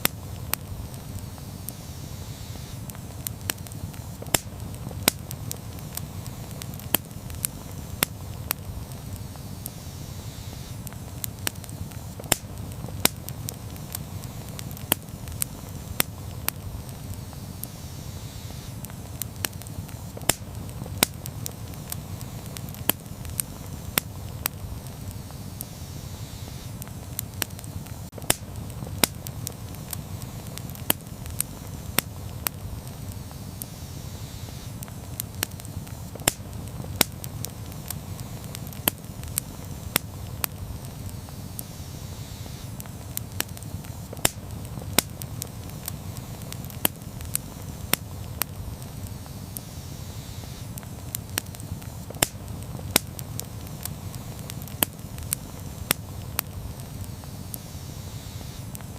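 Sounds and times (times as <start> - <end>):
wood popping and crackling: 0.0 - 1.8, 2.6 - 9.8, 10.6 - 17.8, 18.6 - 25.7, 26.6 - 33.7, 34.5 - 41.8, 42.5 - 49.6, 50.5 - 57.6, 58.6 - 58.9
low rush of flame: 0.0 - 58.9.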